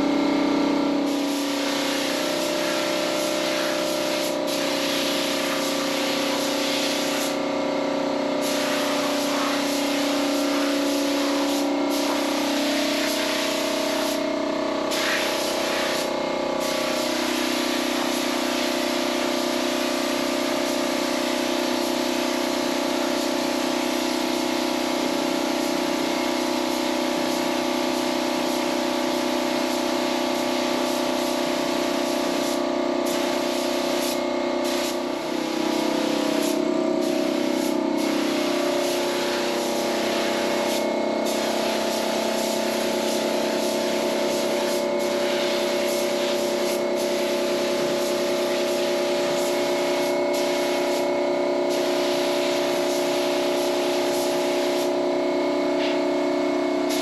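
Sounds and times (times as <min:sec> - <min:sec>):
paint spray gun hissing: 0:00.9 - 0:07.6, 0:08.4 - 0:55.2, 0:55.8 - 0:56.1, 0:56.8 - 0:57.0.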